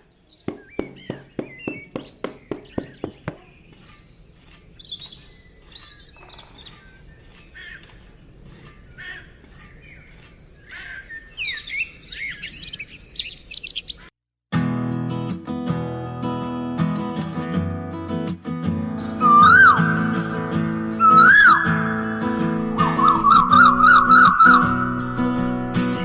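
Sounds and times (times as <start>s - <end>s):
birds chirping and calling: 0.0s - 14.1s, 19.0s - 26.0s.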